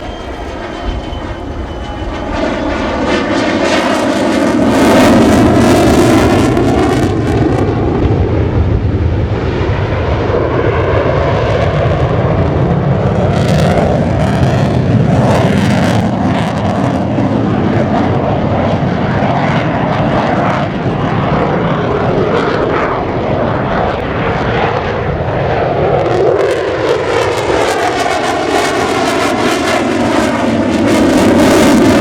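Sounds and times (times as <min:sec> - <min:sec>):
fighter jet flying past: 0:00.0 - 0:32.0.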